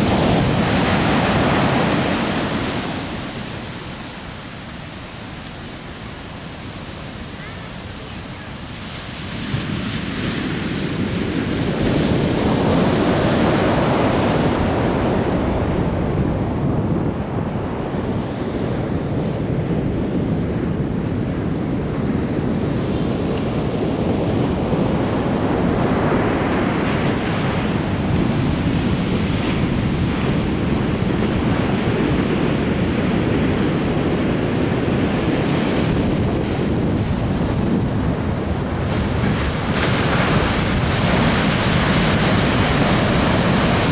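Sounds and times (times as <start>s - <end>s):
surf washing up a beach: 0.0s - 43.9s.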